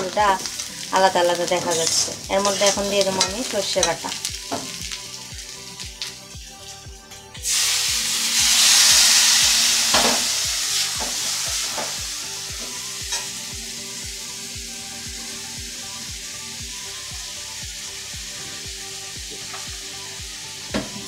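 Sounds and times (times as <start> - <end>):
loud sizzle in hot oil: 0.0 - 21.0.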